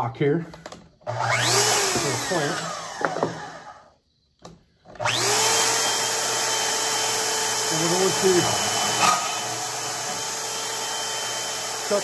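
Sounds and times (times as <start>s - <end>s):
band saw motor whine: 1.1s - 4.0s, 5.0s - 12.0s.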